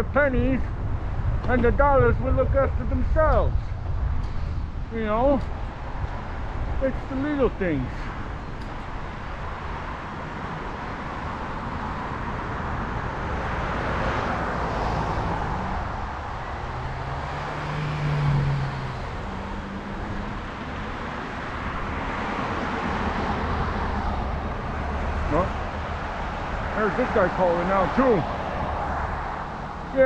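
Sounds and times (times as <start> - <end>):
cars passing: 0.0 - 30.0
vehicle engine hum: 0.0 - 30.0.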